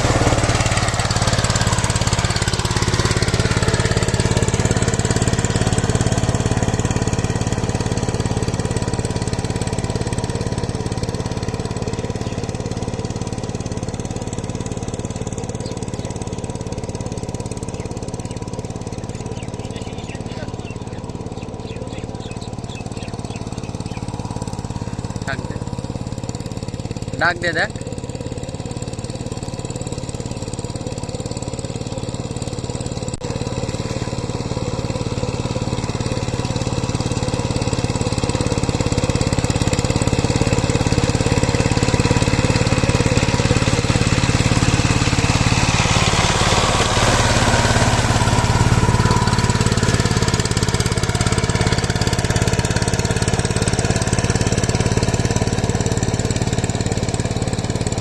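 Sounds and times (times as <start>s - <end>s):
power tiller engine running: 0.0s - 58.0s.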